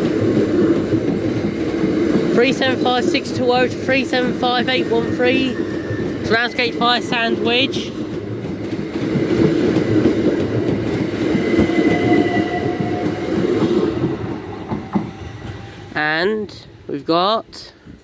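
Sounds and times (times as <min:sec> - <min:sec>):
wheels clattering on rails: 0:00.0 - 0:15.9
train rumbling past: 0:00.0 - 0:18.0.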